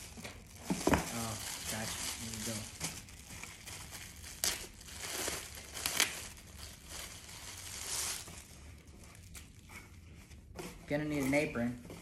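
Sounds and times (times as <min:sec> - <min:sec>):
plastic packaging crinkling: 0:00.0 - 0:09.7.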